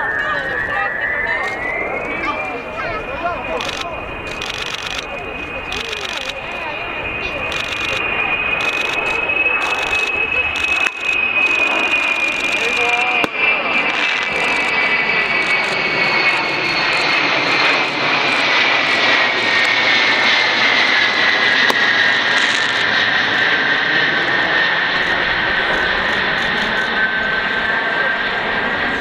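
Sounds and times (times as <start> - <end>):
jet aircraft passing overhead: 0.0 - 29.0.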